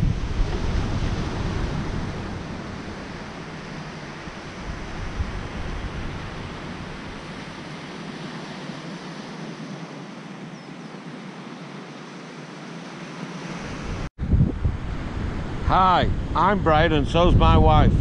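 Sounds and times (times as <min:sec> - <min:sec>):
low wind rumble on microphone: 0:00.0 - 0:18.0
surf washing on sandy beach: 0:00.0 - 0:18.0.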